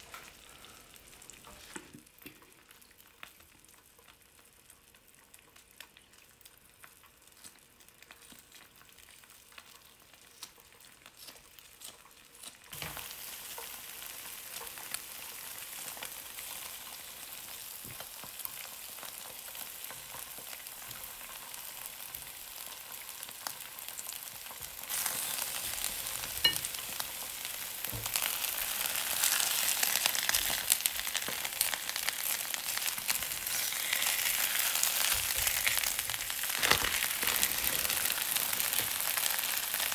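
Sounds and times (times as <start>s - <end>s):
crackles: 0.0s - 39.9s
eggs sizzling in a pan: 0.0s - 39.9s.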